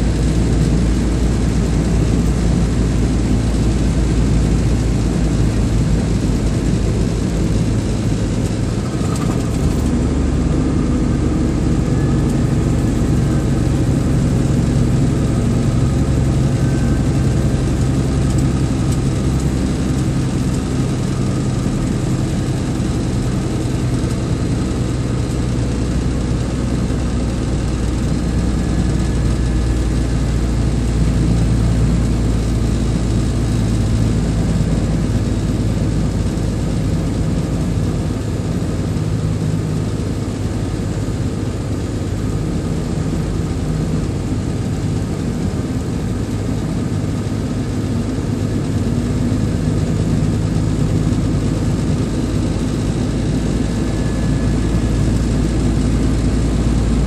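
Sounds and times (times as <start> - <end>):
road noise: 0.0 - 57.0
vehicle engine pulling uphill: 0.0 - 57.0.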